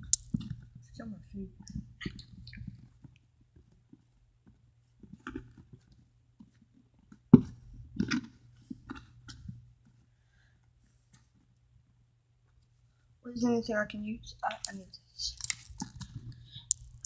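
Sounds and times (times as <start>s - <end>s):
steady low hum: 0.0s - 6.4s, 7.1s - 17.0s.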